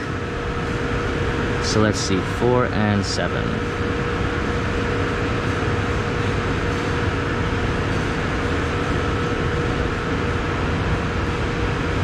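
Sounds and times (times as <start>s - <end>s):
machinery drone: 0.0s - 12.0s.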